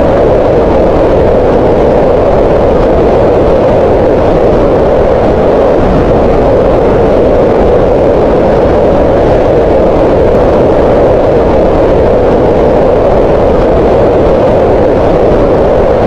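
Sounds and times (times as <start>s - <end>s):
steady synthetic noise hiss: 0.0s - 16.0s.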